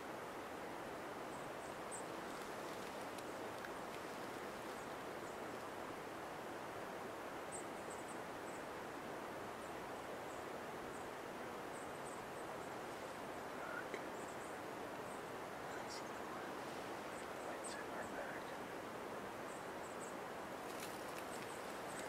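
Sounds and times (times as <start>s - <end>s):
forest ambience hiss: 0.0s - 22.0s.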